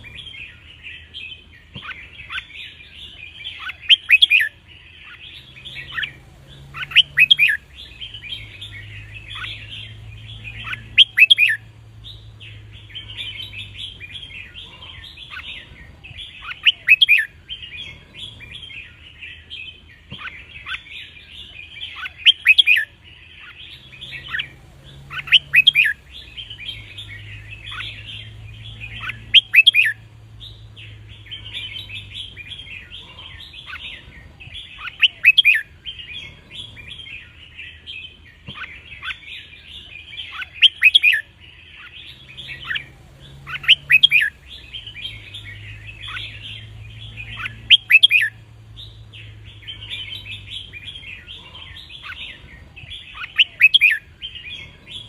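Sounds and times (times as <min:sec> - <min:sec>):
bird song phrases: 0:00.0 - 0:55.0
birds chirping chatter: 0:00.0 - 0:55.0.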